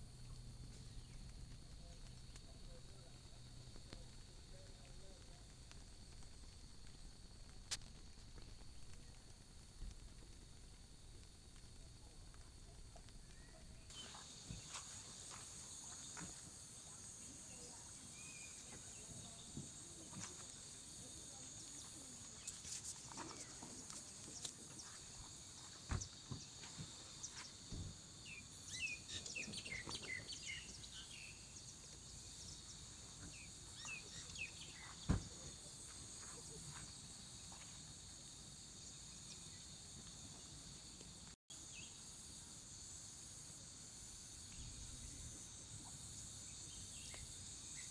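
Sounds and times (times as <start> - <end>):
insects chorus: 0.0 - 47.9.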